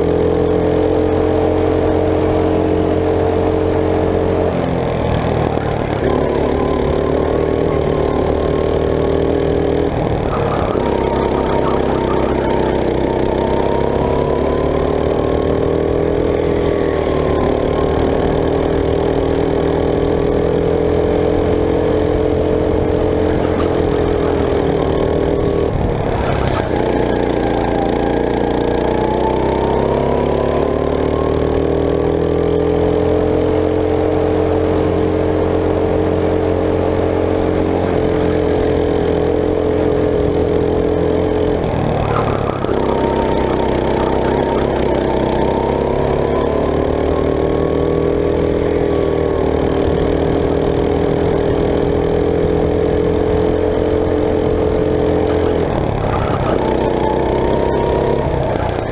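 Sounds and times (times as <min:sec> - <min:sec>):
go-kart engine racing: 0:00.0 - 0:58.9.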